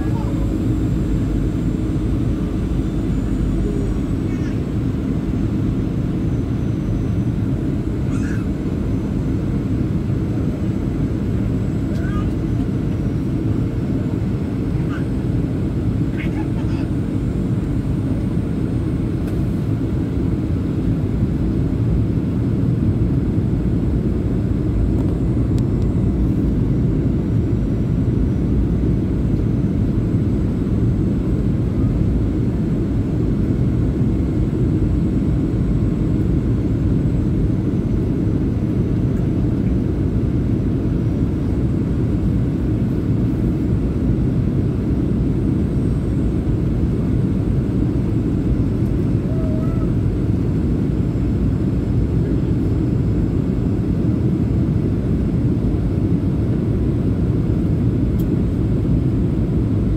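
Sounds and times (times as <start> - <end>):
airliner engines rumbling in cabin: 0.0 - 59.9.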